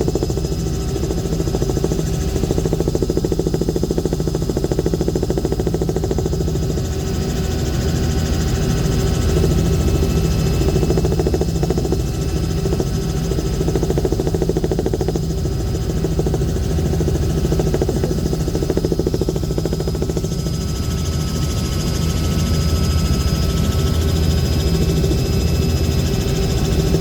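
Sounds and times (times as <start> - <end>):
aircraft engine and propeller: 0.0 - 27.0
thin steady whine: 0.0 - 27.0.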